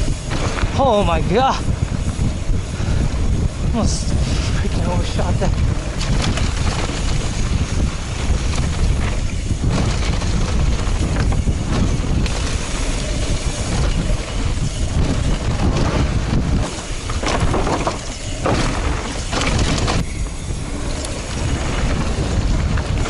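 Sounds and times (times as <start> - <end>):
bike knocks and rattles: 0.0 - 23.0
tyres rumbling on dry dirt: 0.0 - 23.0
wind buffeting microphone: 0.0 - 23.0.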